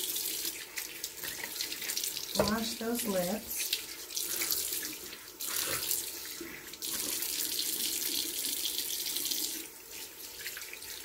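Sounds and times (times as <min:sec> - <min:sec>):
sink tap running: 0:00.0 - 0:11.0.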